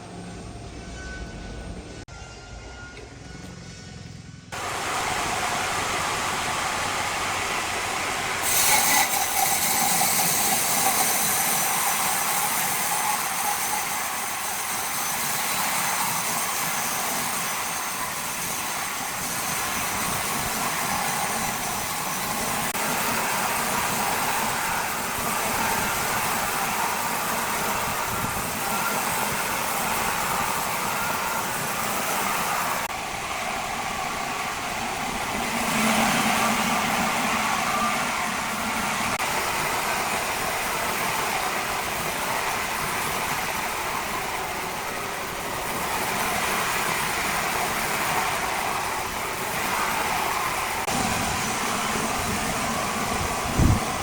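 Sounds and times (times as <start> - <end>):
loud steady machine noise: 4.5 - 54.0.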